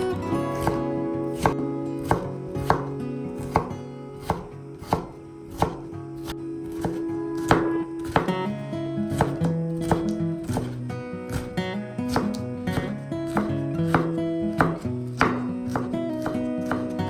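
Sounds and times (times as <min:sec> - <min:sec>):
soft acoustic guitar music: 0:00.0 - 0:17.0
knife chopping on cutting board: 0:00.5 - 0:17.0.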